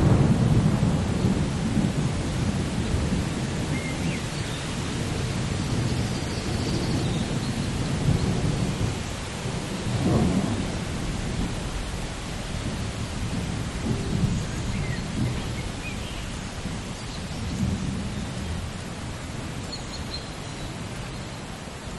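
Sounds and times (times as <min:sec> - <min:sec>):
rolling thunder rumble: 0:00.0 - 0:19.7
steady rain: 0:00.0 - 0:21.9.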